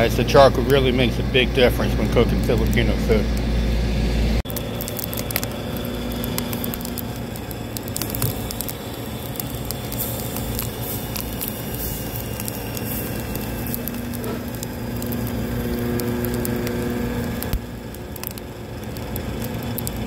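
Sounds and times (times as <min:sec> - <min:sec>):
meat sizzling over charcoal: 0:00.0 - 0:03.3, 0:04.4 - 0:20.0
crackles and pops: 0:00.0 - 0:03.8, 0:04.4 - 0:20.0.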